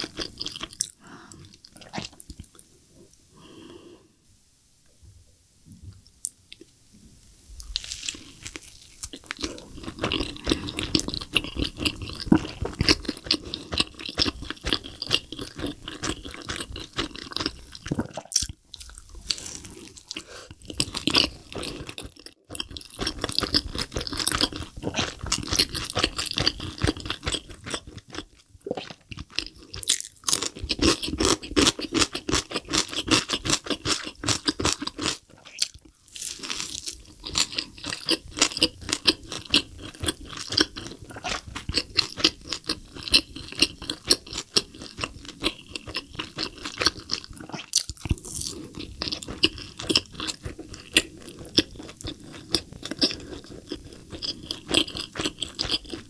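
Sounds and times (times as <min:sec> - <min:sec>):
wet chewing and mouth smacks: 0:07.6 - 0:56.0.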